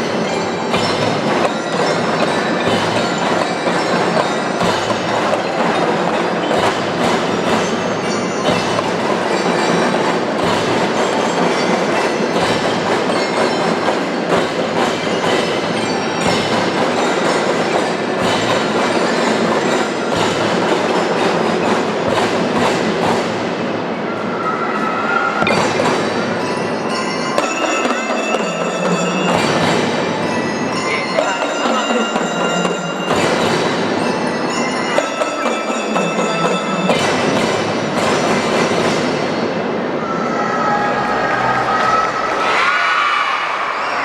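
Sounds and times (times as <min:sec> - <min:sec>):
bell-like tones: 0:00.0 - 0:21.9, 0:24.0 - 0:42.3
marching band drumming: 0:00.0 - 0:24.3, 0:25.4 - 0:39.5.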